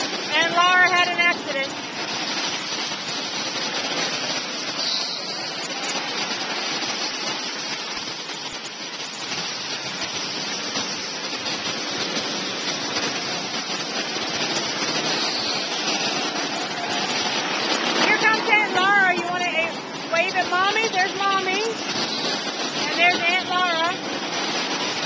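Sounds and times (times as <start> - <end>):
go-kart engines: 0.0 - 25.0.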